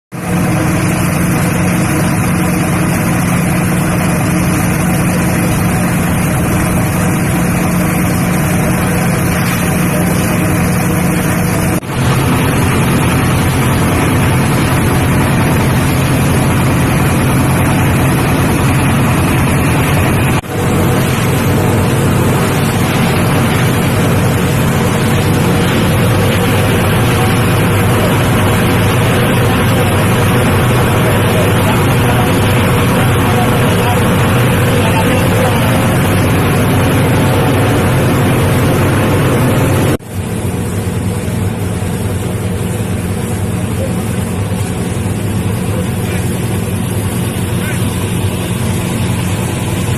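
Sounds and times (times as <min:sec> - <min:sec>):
diesel engine droning: 0:00.1 - 0:49.9.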